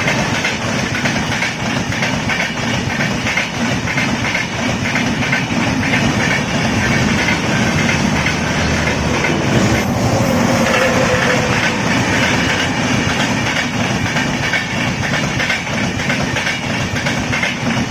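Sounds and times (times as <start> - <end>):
train rumble: 0.0 - 17.9
train wheels clattering over rail joints: 0.0 - 17.9.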